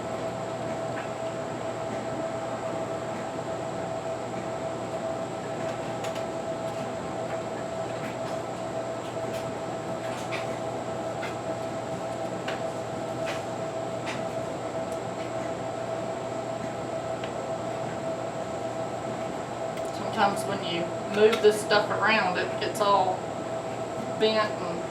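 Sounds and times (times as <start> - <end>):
mechanical hum with whining tone: 0.0 - 24.9.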